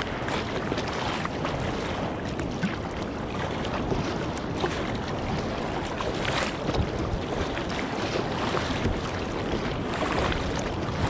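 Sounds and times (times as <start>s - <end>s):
paddle strokes splashing: 0.0s - 11.0s
water rushing around kayak hull: 0.0s - 11.0s.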